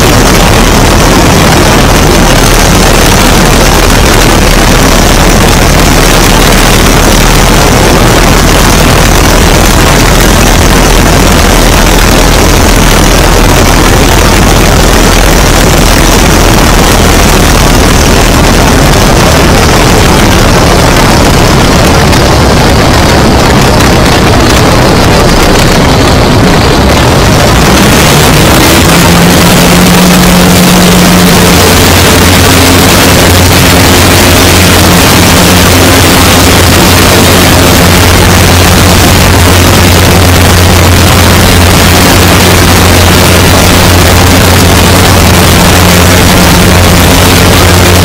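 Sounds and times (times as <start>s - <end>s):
propeller plane engine running: 0.0s - 48.0s
wind blast on microphone: 0.0s - 48.0s.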